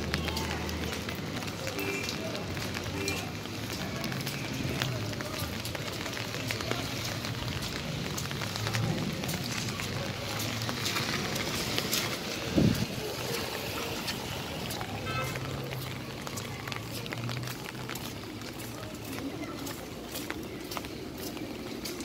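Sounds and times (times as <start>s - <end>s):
rain on wet street: 0.0s - 22.0s.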